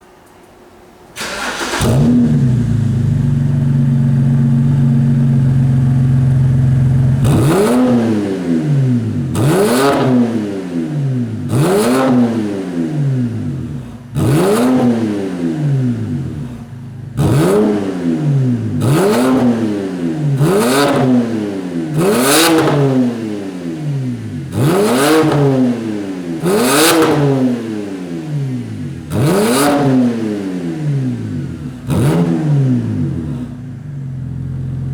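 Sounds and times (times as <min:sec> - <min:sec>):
car engine idling and revving: 0:01.2 - 0:34.9.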